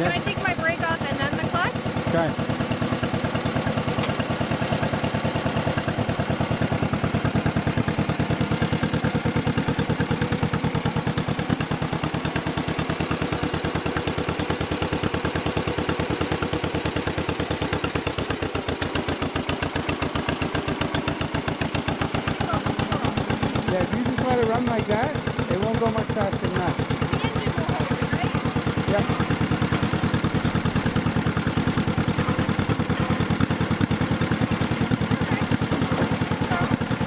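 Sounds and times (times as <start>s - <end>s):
tractor engine popping: 0.0s - 37.0s.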